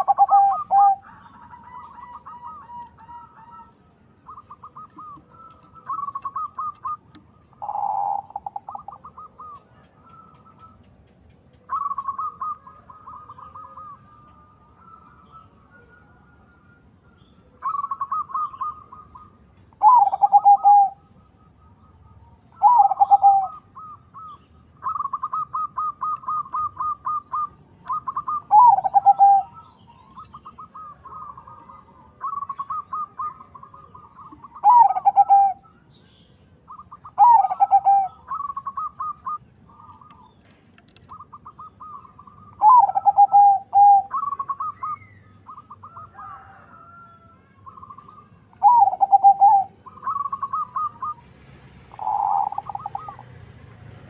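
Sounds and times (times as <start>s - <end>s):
dove singing and cooing: 0.0s - 54.0s.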